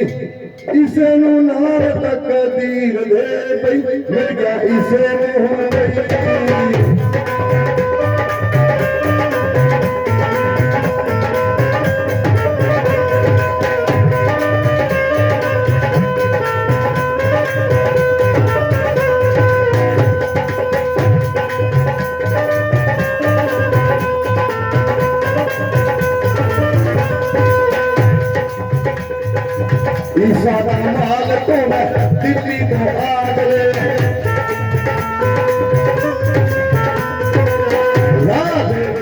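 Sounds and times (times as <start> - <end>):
hand drum rhythm: 3.8 - 39.0.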